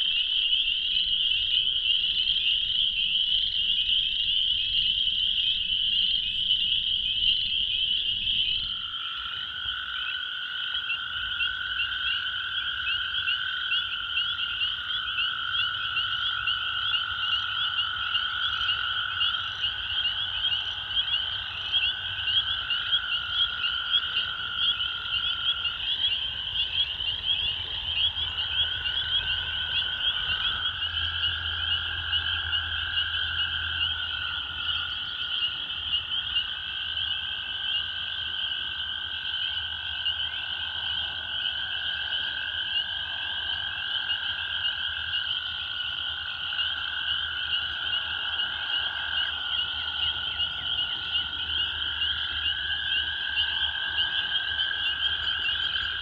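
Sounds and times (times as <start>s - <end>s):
spring peepers chorus: 0.0s - 56.0s
toads trilling: 0.0s - 56.0s.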